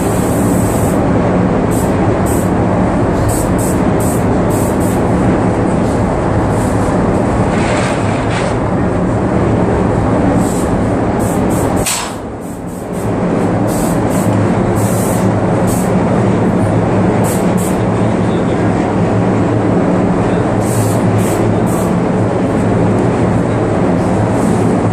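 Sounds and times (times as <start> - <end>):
paint sprayer rumble and hum: 0.0 - 24.9.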